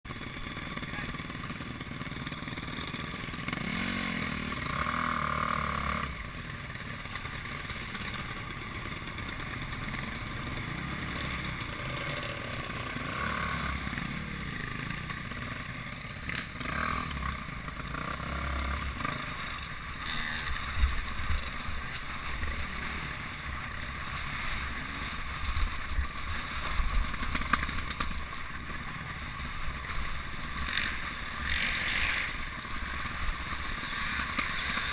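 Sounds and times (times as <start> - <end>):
dirt bike engine running: 0.1 - 34.9.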